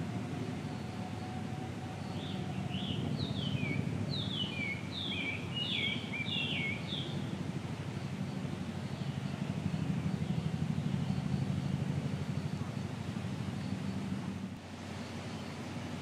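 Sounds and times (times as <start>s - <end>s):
low background rumble: 0.0s - 16.0s
bird singing: 0.3s - 7.4s, 8.0s - 14.2s.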